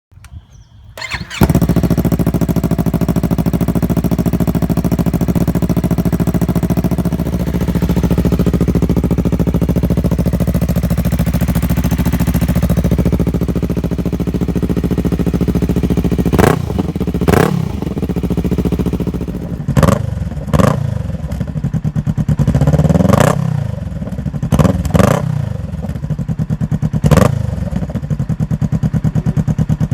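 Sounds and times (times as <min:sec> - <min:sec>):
motorcycle engine idling and revving: 0:00.2 - 0:29.9.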